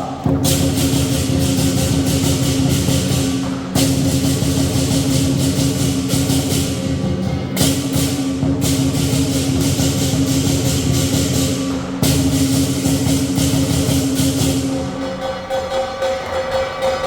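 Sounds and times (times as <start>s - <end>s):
big drum beating: 0.0s - 17.0s
cymbals crashing: 0.0s - 17.0s.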